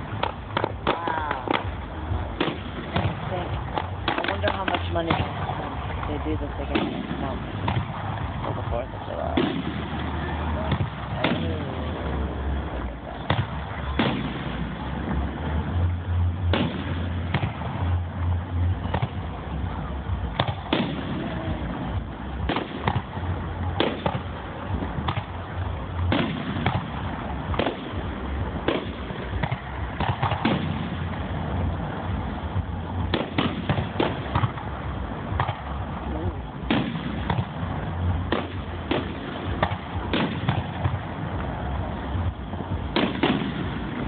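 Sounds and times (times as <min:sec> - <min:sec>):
fireworks bangs: 0:00.0 - 0:44.0
low rumble: 0:00.0 - 0:44.0.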